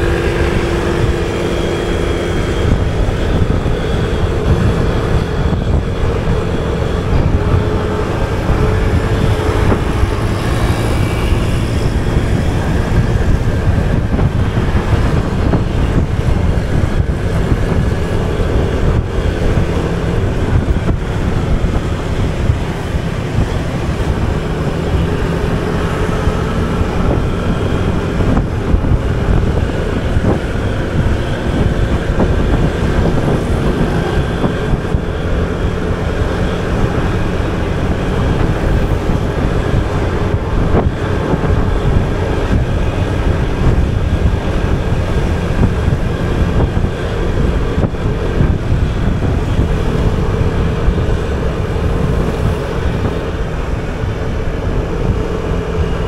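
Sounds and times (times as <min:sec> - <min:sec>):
scooter engine hum: 0:00.0 - 0:56.0
wind buffeting microphone: 0:00.0 - 0:56.0.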